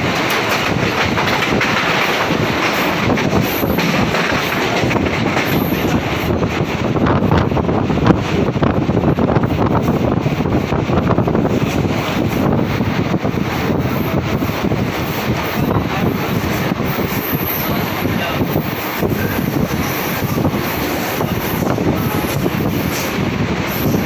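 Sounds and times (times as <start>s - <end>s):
train wheels rumbling on rails: 0.0s - 24.0s
wind buffeting microphone: 0.0s - 24.0s.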